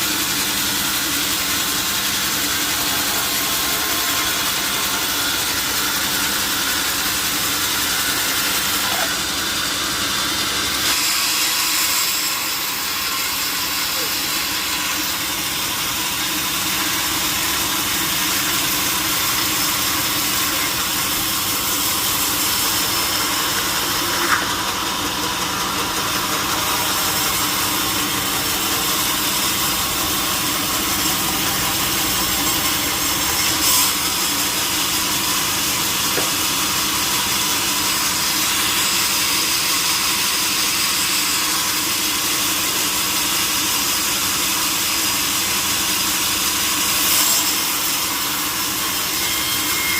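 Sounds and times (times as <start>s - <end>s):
sawmill saw cutting log: 0.0s - 49.9s.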